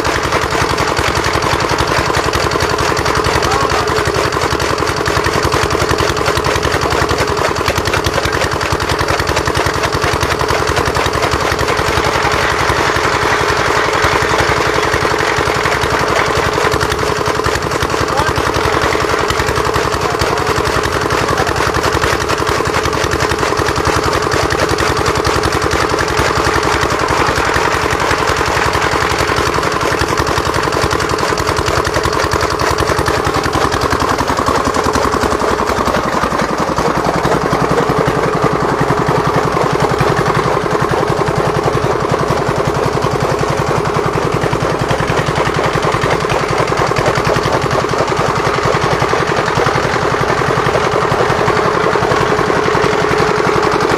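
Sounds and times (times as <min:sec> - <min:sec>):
chaff cutter chopping fodder: 0:00.0 - 0:53.9
small diesel engine knocking: 0:00.0 - 0:53.9.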